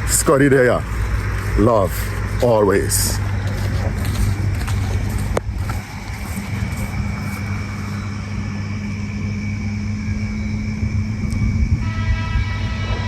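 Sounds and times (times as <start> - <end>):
steady hum: 0.0 - 13.0
vehicle rumble: 0.0 - 13.0.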